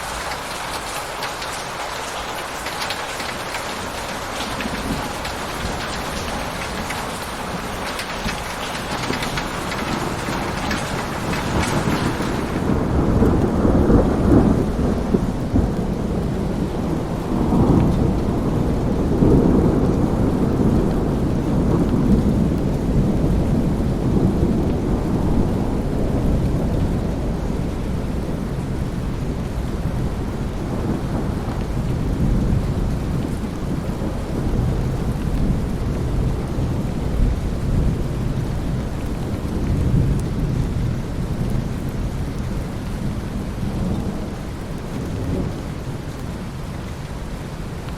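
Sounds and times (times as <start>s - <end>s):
low rolling thunder: 0.0s - 47.9s
steady rain: 0.0s - 47.9s.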